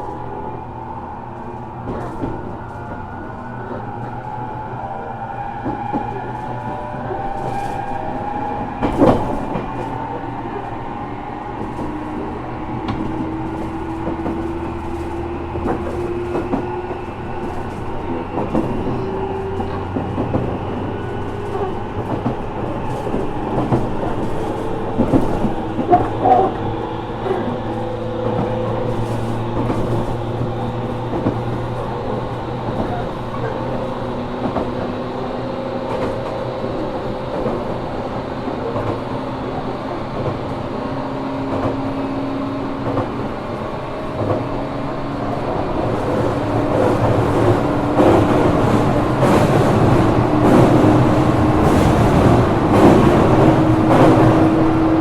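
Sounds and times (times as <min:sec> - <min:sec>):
electric train rumble: 0:00.0 - 0:55.0.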